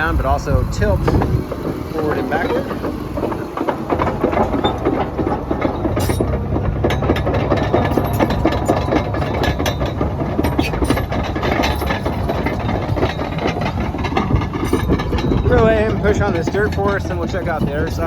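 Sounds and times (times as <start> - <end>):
diesel engine low hum: 0.0 - 18.0
metallic clicking and clanking: 0.0 - 18.0.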